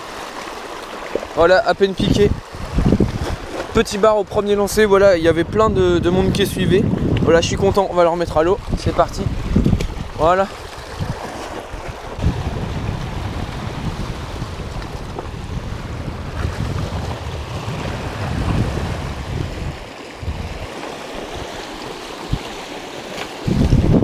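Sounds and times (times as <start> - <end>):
sea waves washing over rocks: 0.0 - 4.4, 6.2 - 24.0
wind buffeting microphone: 1.4 - 22.6, 23.4 - 24.0.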